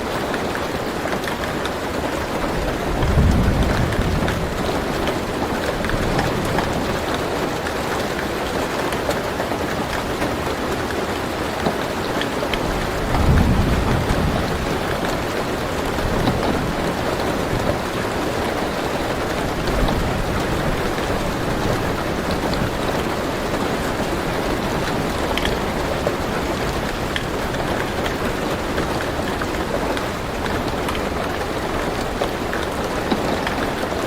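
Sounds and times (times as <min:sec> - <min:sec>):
rain on a car roof: 0:00.0 - 0:34.0
raindrops ticking: 0:00.1 - 0:34.0.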